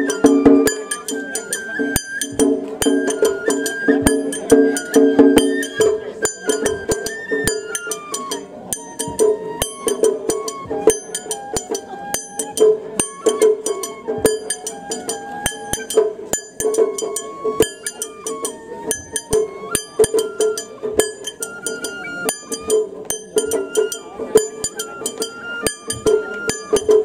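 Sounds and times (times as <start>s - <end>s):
high held melody: 0.0s - 27.0s
ringing metallic percussion: 0.0s - 27.0s.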